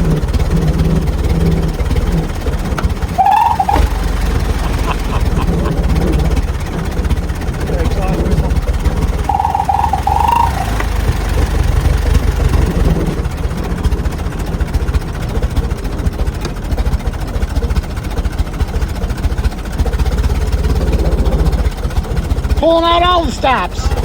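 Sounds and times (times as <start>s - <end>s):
race car engine rumble: 0.0s - 24.0s.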